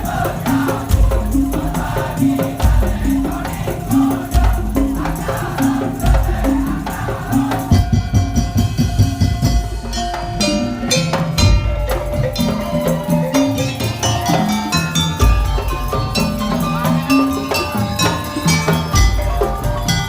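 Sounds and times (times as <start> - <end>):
clattering percussion: 0.0 - 20.0
deep drum beats: 0.0 - 20.0
pitched percussion notes: 0.0 - 20.0.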